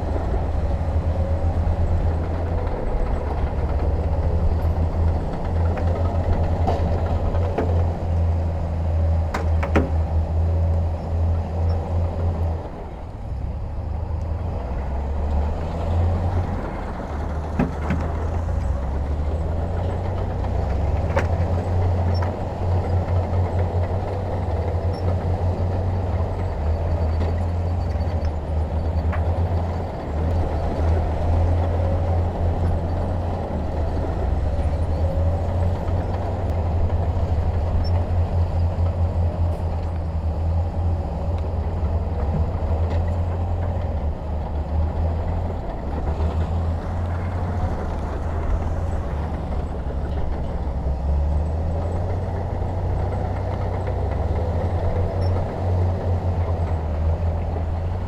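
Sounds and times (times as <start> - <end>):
diesel machinery engine rumble: 0.0 - 58.0.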